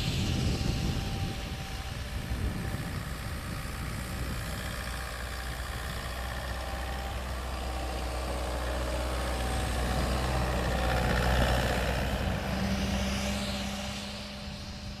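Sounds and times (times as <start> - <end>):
engine running under load: 0.0 - 15.0
tyres rushing through snow: 0.0 - 15.0.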